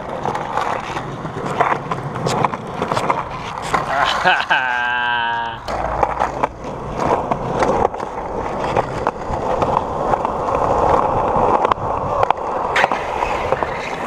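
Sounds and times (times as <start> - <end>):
skateboard clacks: 0.0 - 14.0
skateboard wheels rolling on concrete: 0.0 - 14.0.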